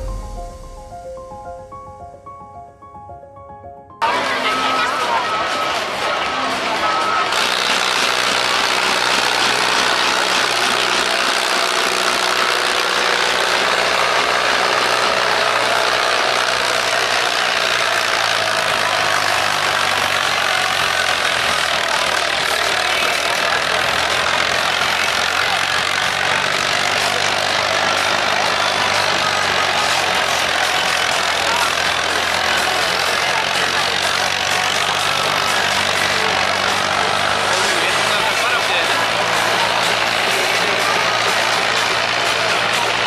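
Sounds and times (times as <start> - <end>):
tractor diesel engine running: 4.0 - 43.0.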